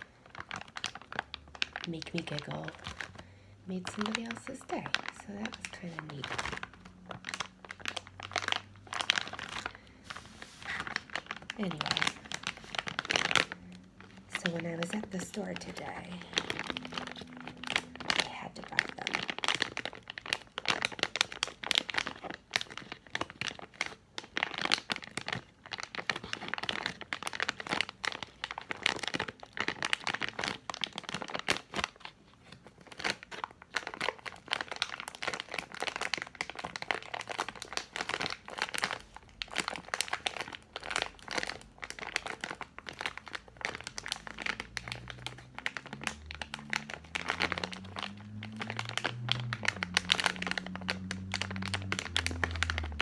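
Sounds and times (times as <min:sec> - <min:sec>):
plastic candy packaging crinkling: 0:00.0 - 0:53.0.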